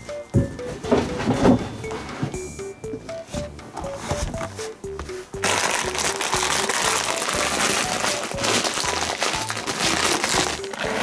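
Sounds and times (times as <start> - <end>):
light bouncy music: 0.0 - 11.0.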